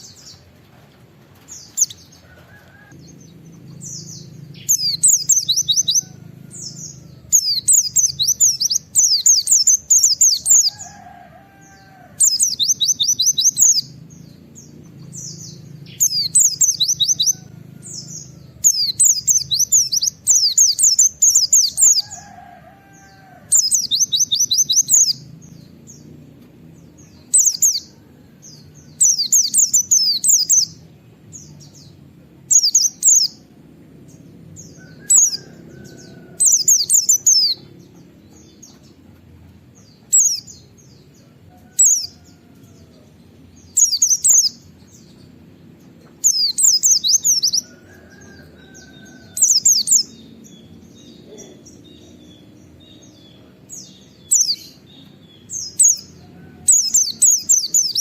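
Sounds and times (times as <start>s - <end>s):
bird chirping trills: 1.4s - 39.2s, 39.8s - 58.0s.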